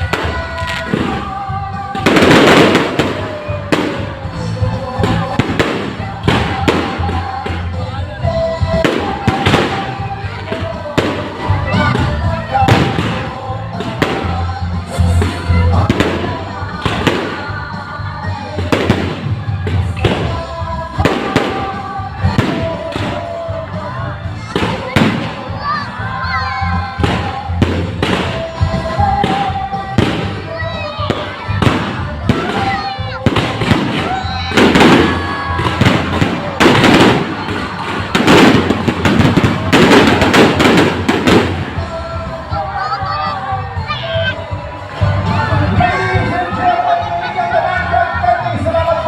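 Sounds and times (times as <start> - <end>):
fireworks exploding: 0.0 - 45.6
music playing: 0.0 - 49.0.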